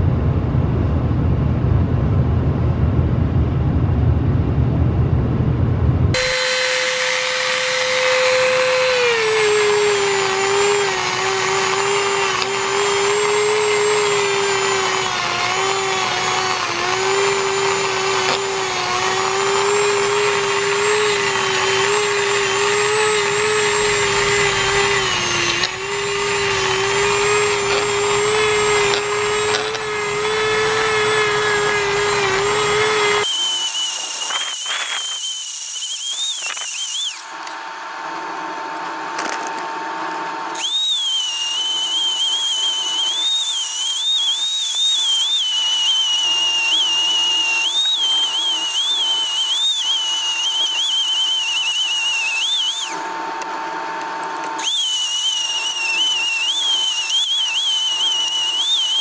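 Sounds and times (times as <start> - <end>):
rotary tool grinding metal: 6.2 - 37.7, 40.4 - 53.2, 53.9 - 59.0.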